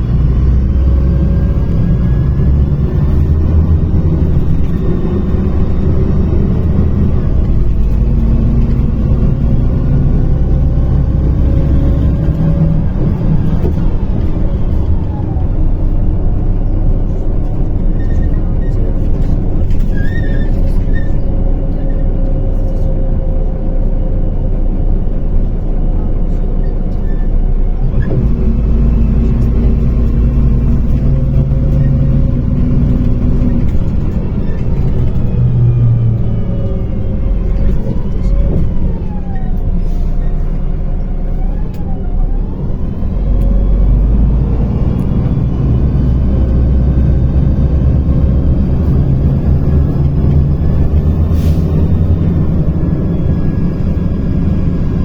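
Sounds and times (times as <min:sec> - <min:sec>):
bus diesel engine rumbling: 0:00.0 - 0:55.0
drivetrain whine: 0:00.0 - 0:55.0.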